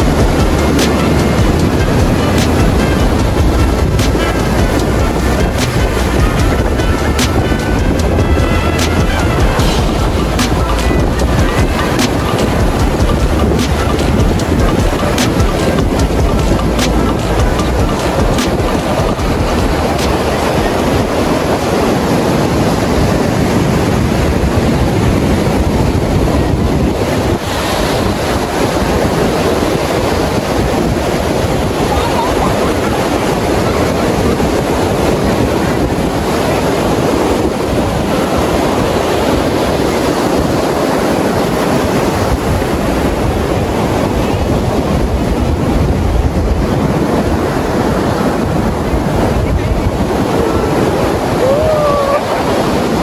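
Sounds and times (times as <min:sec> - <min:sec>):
ocean surf breaking on sand: 0:00.0 - 0:53.0
wind buffeting microphone: 0:00.0 - 0:53.0.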